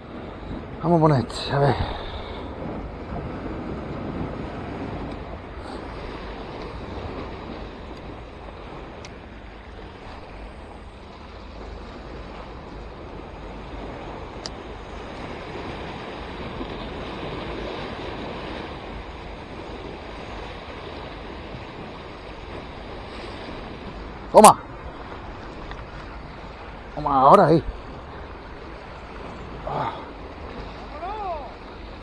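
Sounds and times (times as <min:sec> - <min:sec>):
sea waves breaking: 0:00.0 - 0:32.0
wind rumbling on microphone: 0:00.0 - 0:32.0.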